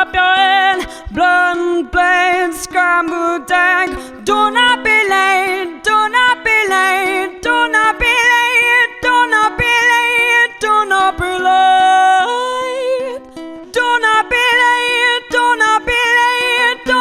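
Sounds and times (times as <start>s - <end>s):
strummed acoustic string instrument: 0.0s - 17.0s
woman singing with vibrato: 0.0s - 17.0s.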